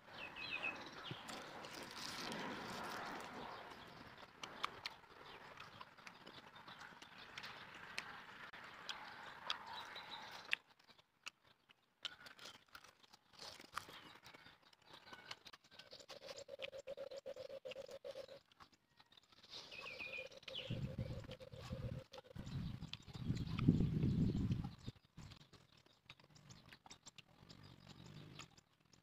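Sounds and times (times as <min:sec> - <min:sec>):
person chewing and lip smacking: 0:00.8 - 0:29.0.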